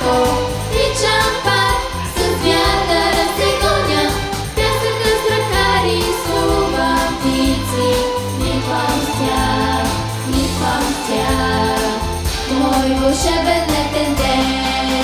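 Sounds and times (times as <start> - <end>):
backing track with bass line: 0.0 - 15.0
vocal ensemble singing: 0.0 - 15.0.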